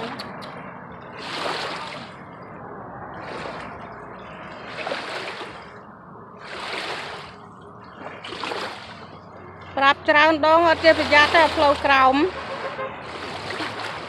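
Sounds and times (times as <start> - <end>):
small waves lapping on shore: 0.0 - 2.4, 3.1 - 14.0.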